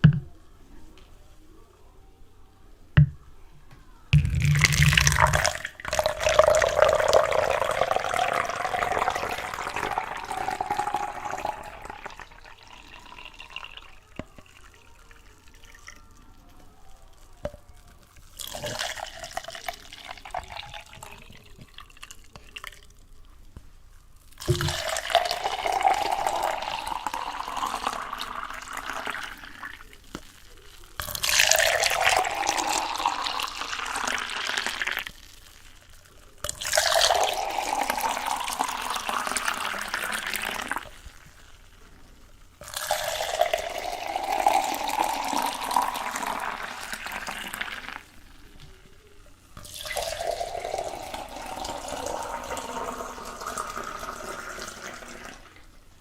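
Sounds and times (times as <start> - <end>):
water pouring into container: 4.2 - 16.2, 18.2 - 23.0, 24.2 - 41.8, 42.4 - 55.8.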